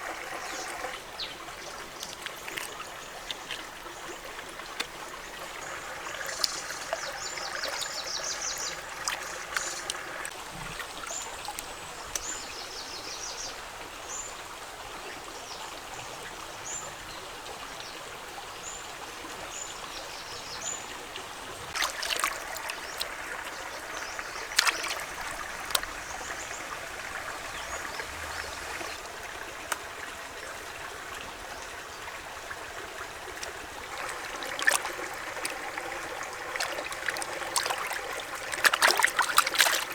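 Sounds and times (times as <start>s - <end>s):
running trickling water: 0.0s - 39.9s.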